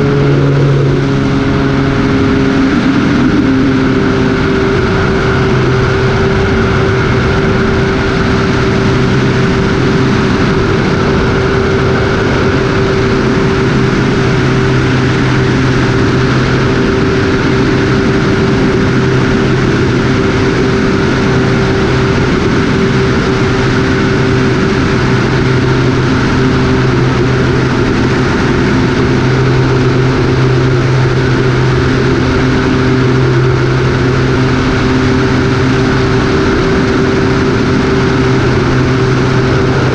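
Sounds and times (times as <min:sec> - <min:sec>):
propeller aircraft engine humming: 0:00.0 - 0:39.9.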